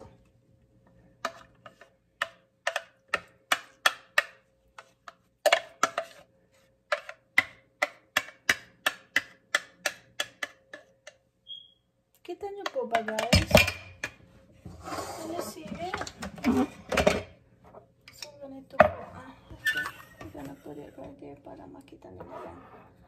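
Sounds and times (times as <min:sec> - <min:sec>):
utensil knocking and scraping containers: 0:01.2 - 0:11.2, 0:12.6 - 0:21.2.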